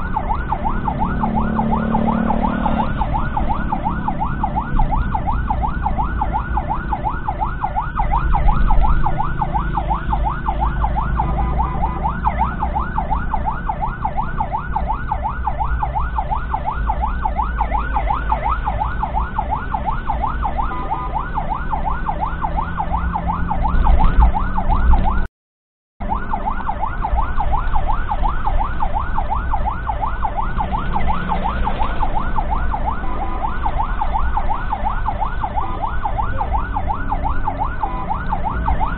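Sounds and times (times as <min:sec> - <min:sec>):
ambulance siren yelp: 0:00.0 - 0:25.3, 0:26.0 - 0:38.9
engine and road rumble: 0:00.0 - 0:25.3, 0:26.0 - 0:38.9.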